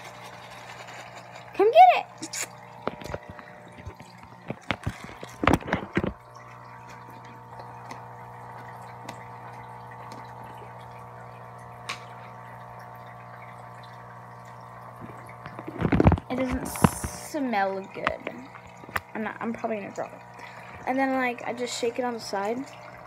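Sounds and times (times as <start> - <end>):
filter pump hum: 0.0 - 23.0
water trickling: 0.0 - 23.0.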